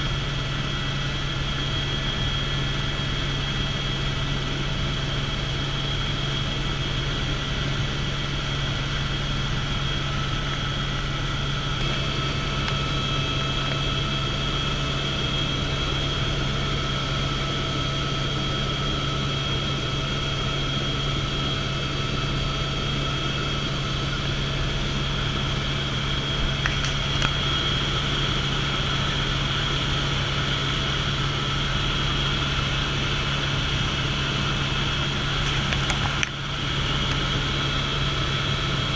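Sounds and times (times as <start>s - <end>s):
helicopter cabin drone and whine: 0.0s - 38.9s.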